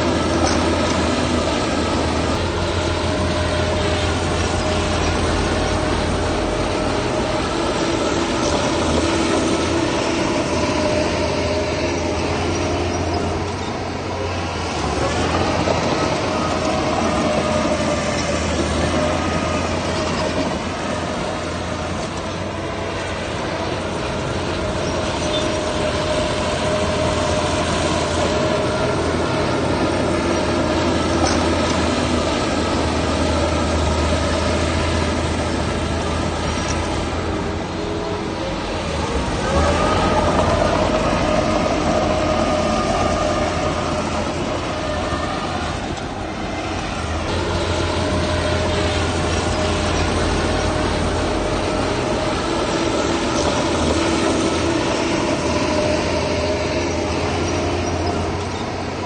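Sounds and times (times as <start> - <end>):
diesel engine hum: 0.0 - 59.0.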